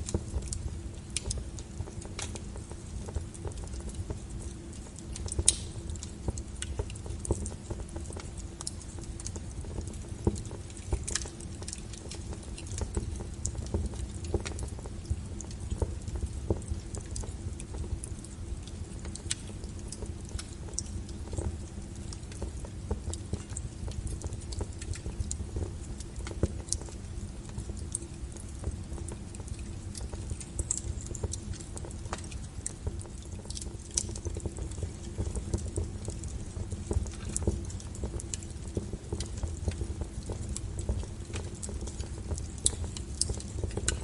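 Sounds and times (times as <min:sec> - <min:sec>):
log fire crackling and popping: 0:00.0 - 0:44.0
low steady fire rumble: 0:00.0 - 0:44.0.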